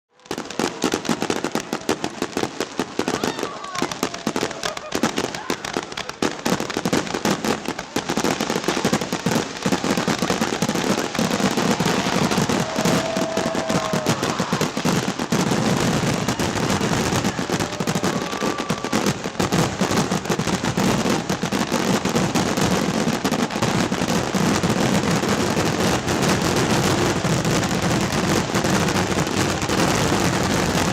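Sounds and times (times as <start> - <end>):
fireworks bursting and crackling: 0.1 - 30.9.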